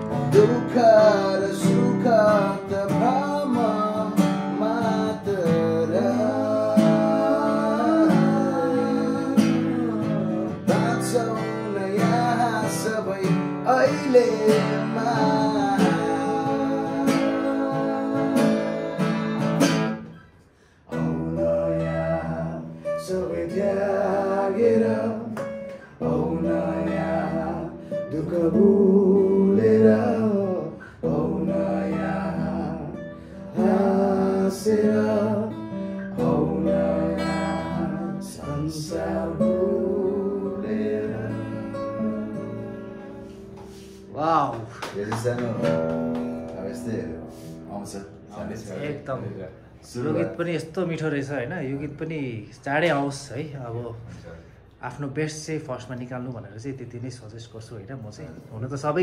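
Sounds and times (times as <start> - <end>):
men singing: 0.0 - 20.0, 20.9 - 43.3, 44.6 - 47.6, 48.3 - 50.6
acoustic guitar strumming: 0.0 - 51.0.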